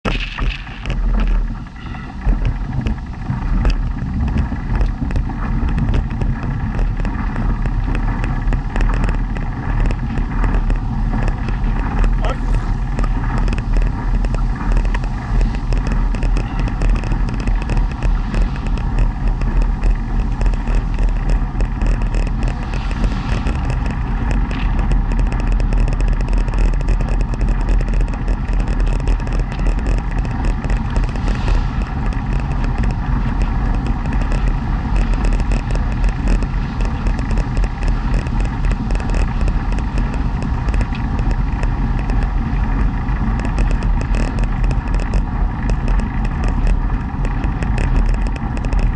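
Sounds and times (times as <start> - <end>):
velomobile rolling on asphalt: 0.0 - 48.9.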